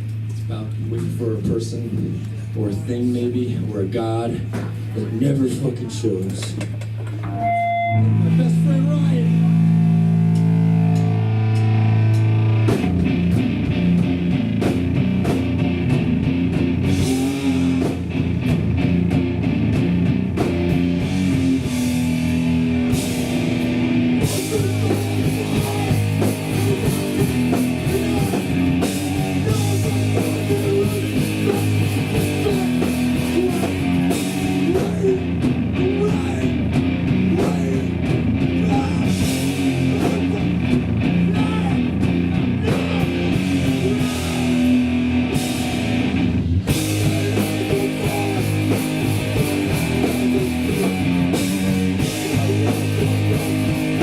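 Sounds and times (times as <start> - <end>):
punk band playing live: 6.4 - 54.0.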